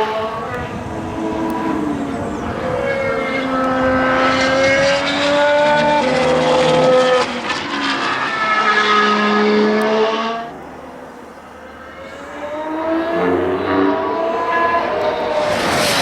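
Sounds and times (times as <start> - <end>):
racing car engine at high revs: 0.0 - 16.0.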